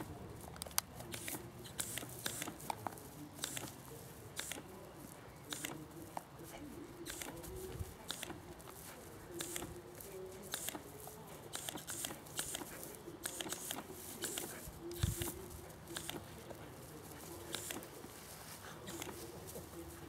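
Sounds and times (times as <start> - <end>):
dogs scuffing on grass: 0.0 - 20.0.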